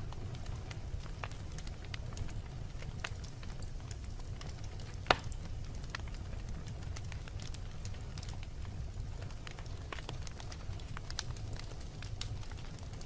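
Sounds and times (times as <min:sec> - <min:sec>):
fire low rumble: 0:00.0 - 0:13.0
wood fire crackling: 0:00.0 - 0:13.0.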